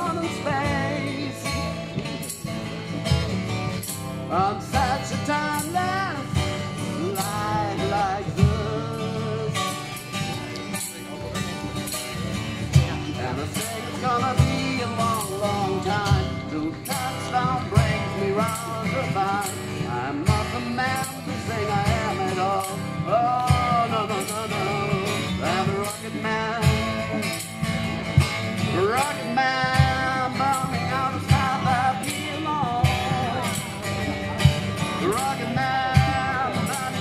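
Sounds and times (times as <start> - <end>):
low beat thumps: 0.0 - 37.0
man singing: 0.0 - 37.0
strummed acoustic guitar: 0.0 - 37.0.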